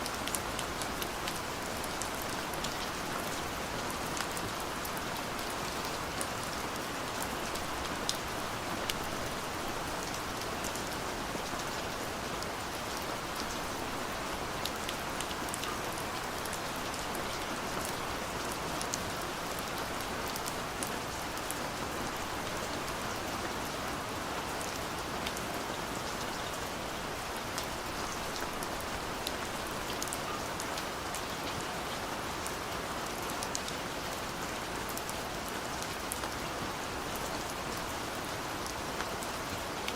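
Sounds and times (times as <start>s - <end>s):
raindrops ticking on surfaces: 0.0s - 39.9s.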